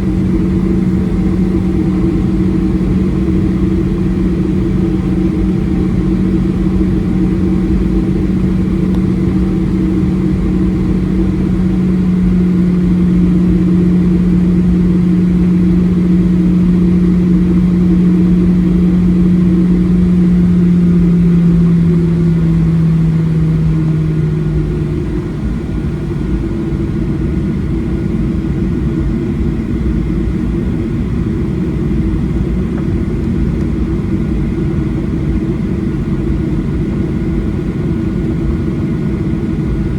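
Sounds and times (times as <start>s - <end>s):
jet engines droning: 0.0s - 39.9s
strong low hum: 0.0s - 39.9s.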